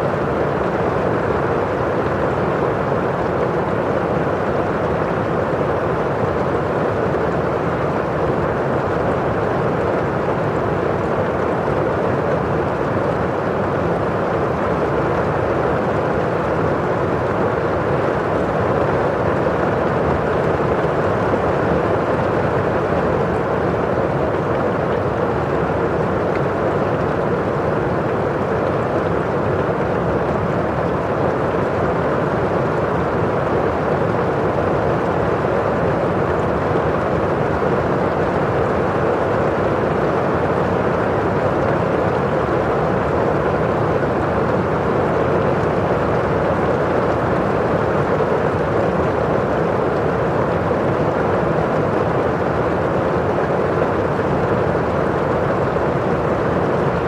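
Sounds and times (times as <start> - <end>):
steady rain on a window: 0.0 - 57.0.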